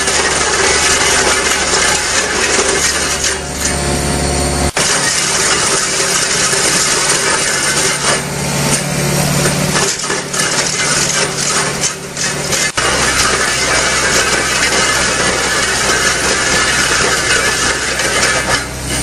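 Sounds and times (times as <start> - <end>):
drum cutter grinding concrete: 0.0 - 19.0.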